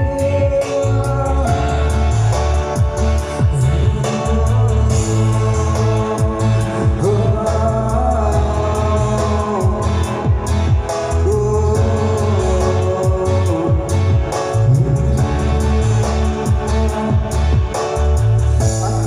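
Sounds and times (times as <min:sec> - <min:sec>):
amplified pop song: 0:00.0 - 0:19.0
man singing: 0:00.0 - 0:19.0.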